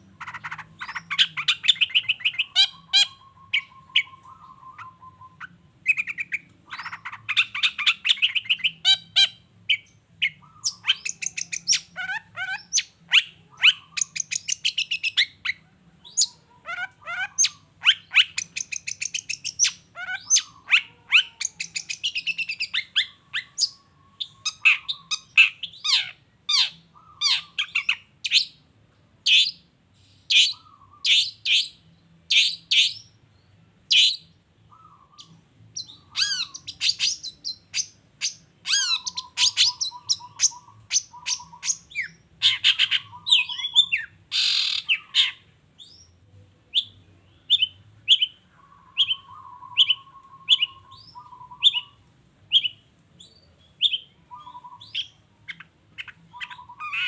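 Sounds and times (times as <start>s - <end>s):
bird singing harsh chirps: 0.2s - 28.6s, 33.9s - 57.0s.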